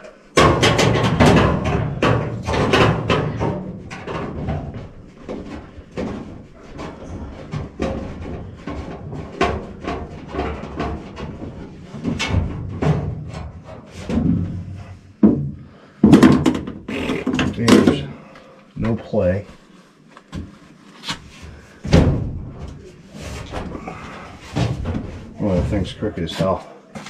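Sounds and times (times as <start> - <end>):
sheet metal knocks and clatter: 0.0 - 18.2, 21.8 - 26.2.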